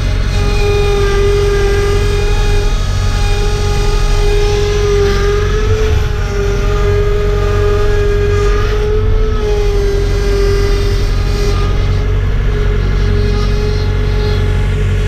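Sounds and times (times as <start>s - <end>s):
skid steer engine at high revs: 0.0s - 15.0s.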